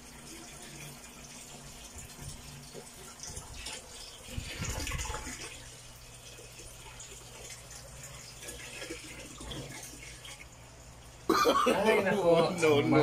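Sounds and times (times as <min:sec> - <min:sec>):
water gushing from a hose: 0:00.0 - 0:10.5.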